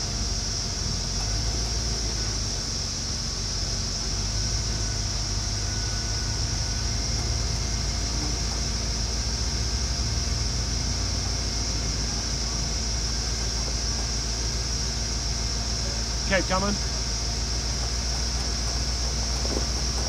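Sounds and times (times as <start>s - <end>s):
constant high hiss: 0.0s - 20.0s
engine running at low revs: 0.0s - 20.0s.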